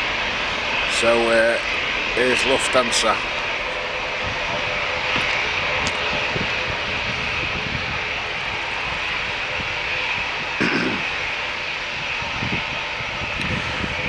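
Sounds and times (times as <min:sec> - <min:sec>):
jet airliner engines running: 0:00.0 - 0:14.0.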